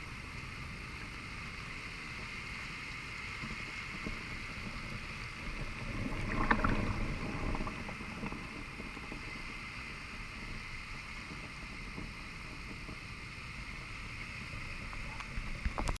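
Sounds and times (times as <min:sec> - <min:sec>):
surf washing onto beach: 0:00.0 - 0:16.0
wave surging and fizzing: 0:00.0 - 0:16.0.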